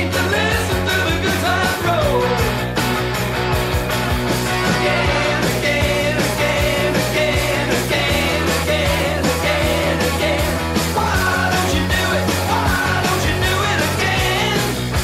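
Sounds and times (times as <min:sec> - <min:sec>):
pop disco instrumental music: 0:00.0 - 0:15.0.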